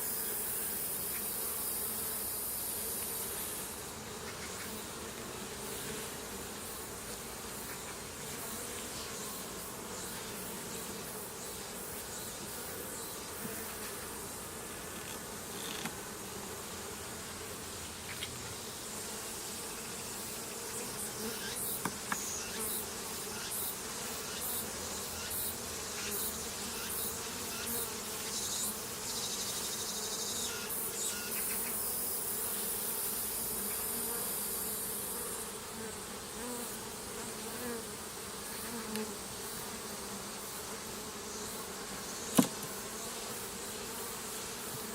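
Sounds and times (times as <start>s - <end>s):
honeybees buzzing: 0.0s - 44.9s.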